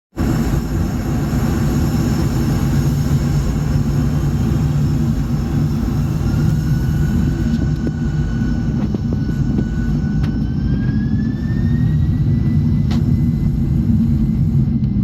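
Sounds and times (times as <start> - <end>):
jet engine cabin rumble: 0.1 - 15.0.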